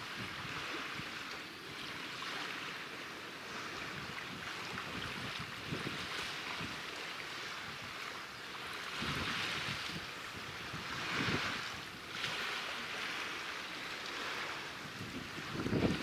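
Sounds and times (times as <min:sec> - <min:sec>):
waves washing: 0:00.0 - 0:16.0
wind buffeting the microphone: 0:00.0 - 0:16.0.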